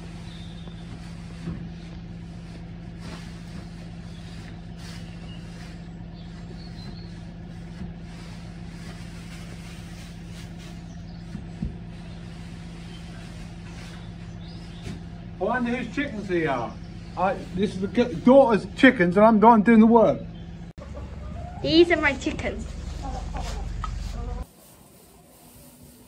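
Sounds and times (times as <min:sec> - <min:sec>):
dry straw rustling: 0:00.0 - 0:19.0, 0:21.7 - 0:26.0
machine engine hum: 0:00.0 - 0:26.0.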